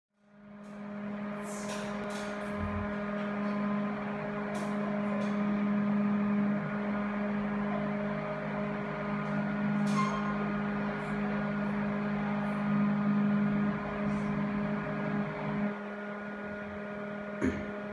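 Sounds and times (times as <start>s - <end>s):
exhaust fan motor hum: 0.2s - 17.9s.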